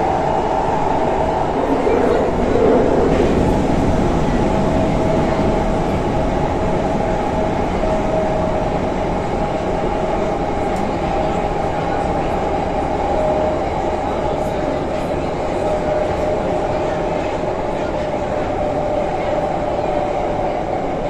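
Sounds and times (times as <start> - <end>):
steady whine: 0.0 - 16.9
rumble of wheels on rail: 0.0 - 21.0.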